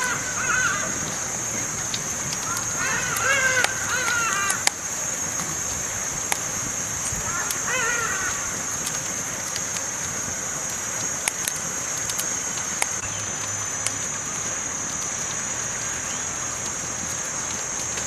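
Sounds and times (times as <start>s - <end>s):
campfire crackling: 0.0s - 18.0s
sharp pops of fire: 0.0s - 18.0s.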